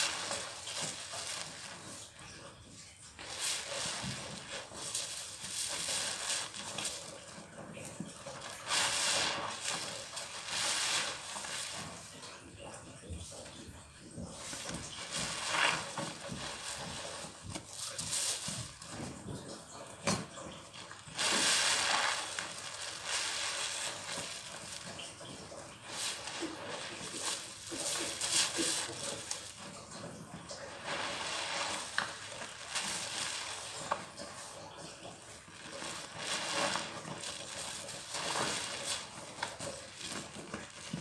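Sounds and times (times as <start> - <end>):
sponge squelching in suds: 0.0 - 41.0.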